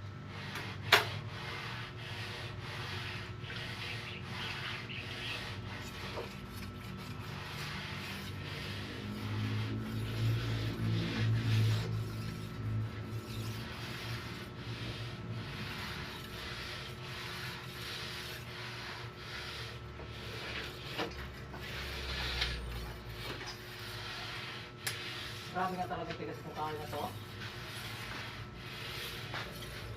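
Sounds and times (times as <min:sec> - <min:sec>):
steel rasping back and forth: 0:00.2 - 0:29.9.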